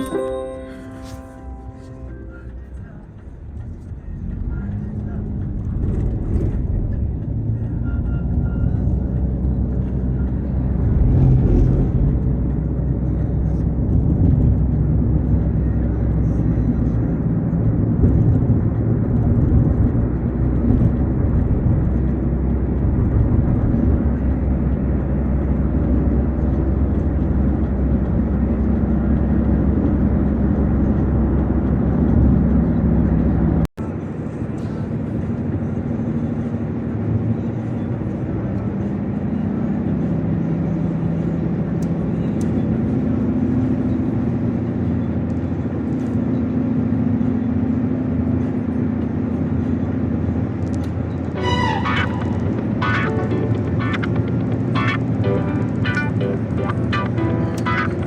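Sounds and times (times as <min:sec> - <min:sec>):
car engine and tyre noise: 0:01.0 - 0:58.0.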